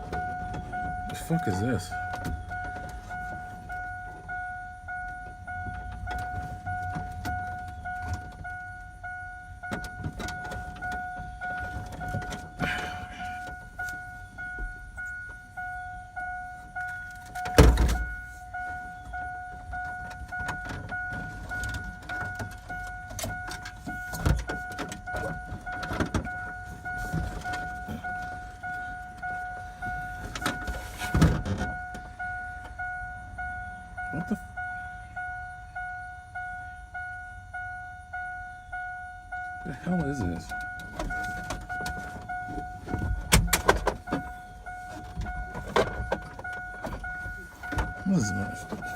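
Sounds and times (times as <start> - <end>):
clicks and rattles of car stereo removal: 0.0 - 4.4, 5.0 - 32.9, 39.9 - 48.9.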